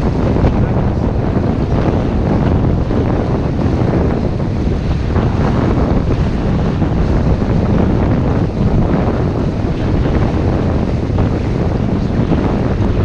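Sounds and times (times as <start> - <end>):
water rushing past boat: 0.0 - 13.0
wind buffeting microphone: 0.0 - 13.0.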